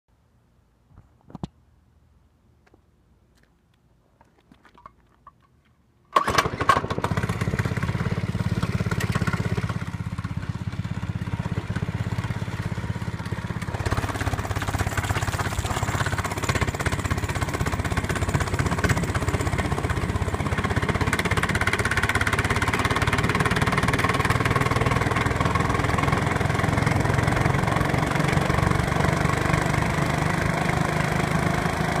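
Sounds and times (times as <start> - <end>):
mini bike engine running: 6.2 - 32.0.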